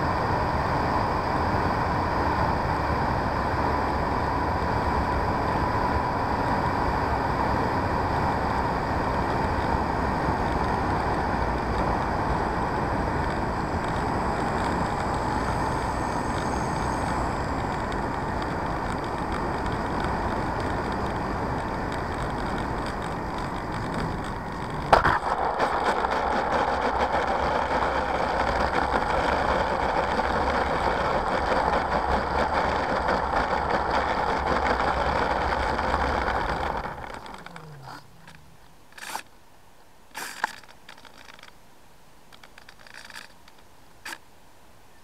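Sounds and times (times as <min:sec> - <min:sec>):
model plane motor and propeller: 0:00.0 - 0:39.3, 0:40.1 - 0:41.6, 0:42.3 - 0:44.2.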